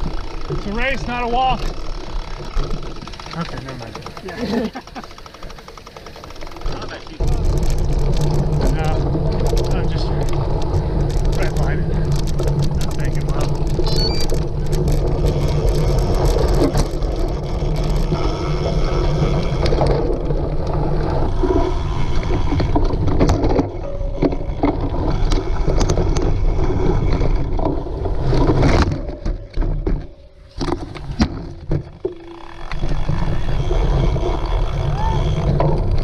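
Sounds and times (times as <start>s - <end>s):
sharp knocks and rattles: 0.0s - 18.2s, 19.6s - 34.3s
bike rumbling over rough ground: 0.0s - 36.0s.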